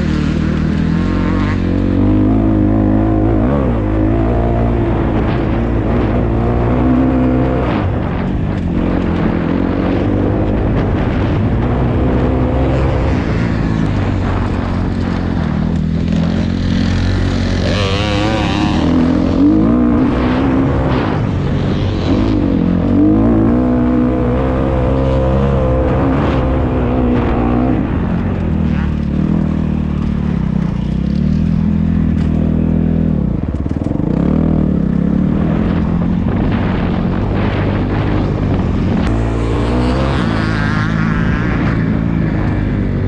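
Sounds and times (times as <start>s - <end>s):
dirt bike engine revving: 0.0s - 42.8s.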